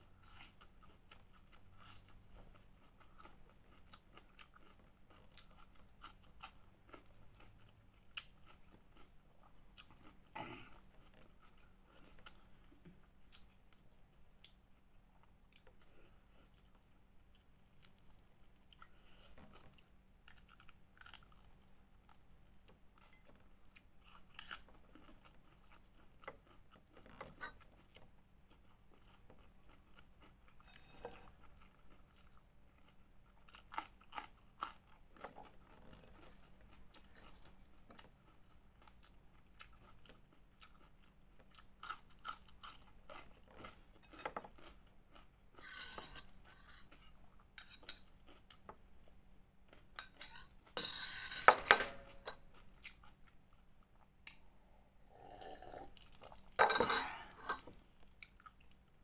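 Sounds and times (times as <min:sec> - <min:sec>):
person chewing food: 0:00.2 - 0:50.8, 0:51.9 - 0:56.6, 0:57.2 - 0:59.0.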